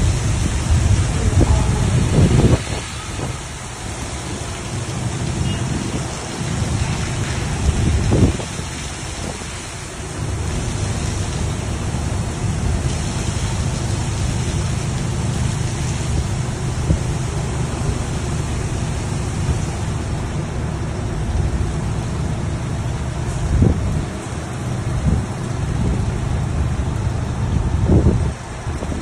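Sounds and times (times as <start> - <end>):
low motor hum: 0.0 - 29.0
washing machine rushing: 0.0 - 29.0.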